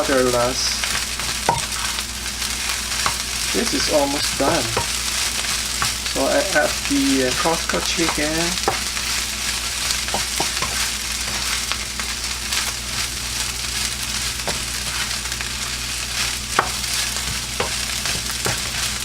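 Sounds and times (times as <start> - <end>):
fried rice sizzling in a pan: 0.0 - 19.0.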